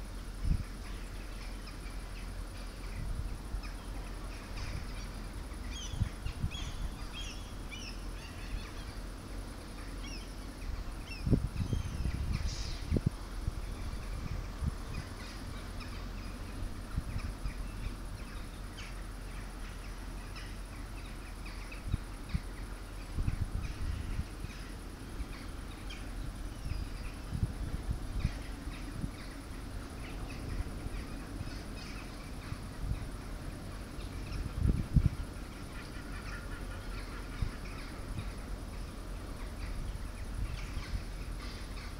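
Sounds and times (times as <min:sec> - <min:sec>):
wind buffeting microphone: 0:00.0 - 0:01.0, 0:02.4 - 0:09.1, 0:10.0 - 0:18.8, 0:21.4 - 0:41.9
birds calling: 0:00.0 - 0:41.9.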